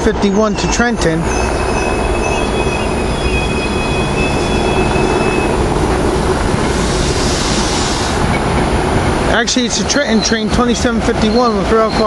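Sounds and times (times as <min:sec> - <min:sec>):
train rail rumble: 0:00.0 - 0:12.0
high wheel squeal: 0:00.2 - 0:08.7, 0:10.1 - 0:12.0.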